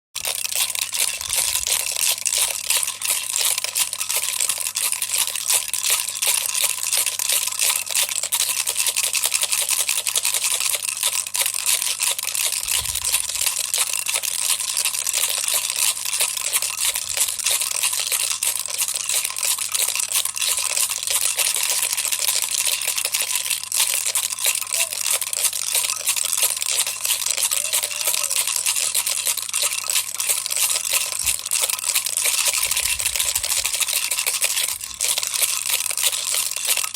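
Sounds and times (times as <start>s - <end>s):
toy rattle shaken: 0.2s - 36.9s.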